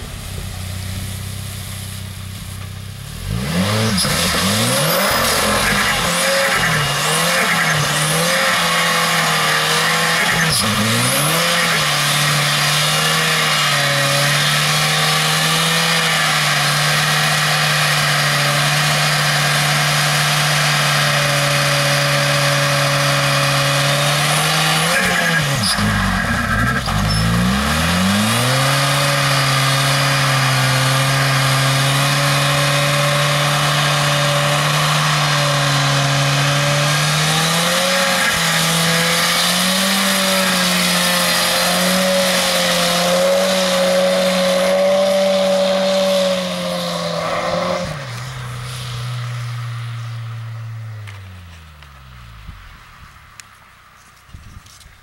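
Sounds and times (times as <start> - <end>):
car engine at high revs: 0.0 - 54.9
tyres squealing on asphalt: 3.2 - 54.3.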